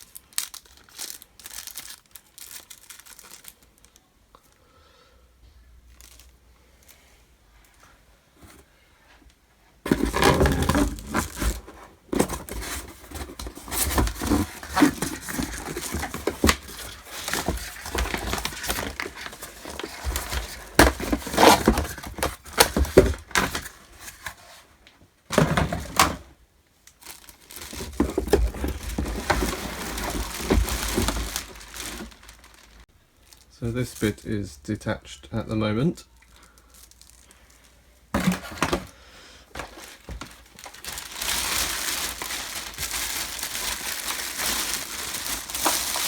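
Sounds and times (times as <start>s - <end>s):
packaging crinkling and rustling: 0.0s - 4.1s, 5.9s - 6.4s, 9.8s - 34.4s, 36.3s - 46.0s.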